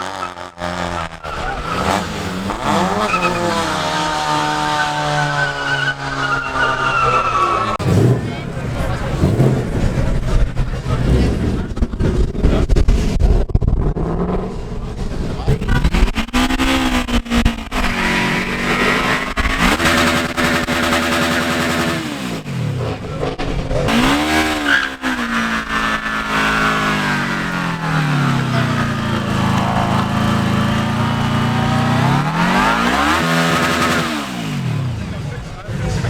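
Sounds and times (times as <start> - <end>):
vehicle engine revving: 0.0 - 36.0.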